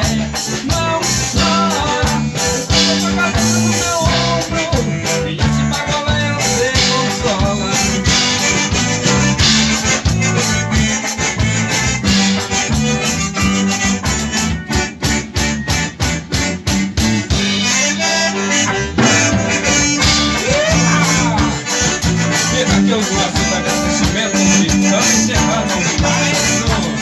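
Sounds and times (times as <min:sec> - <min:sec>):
guitar: 0:00.0 - 0:27.0
reedy accordion melody: 0:00.0 - 0:27.0
steady beat: 0:00.0 - 0:27.0.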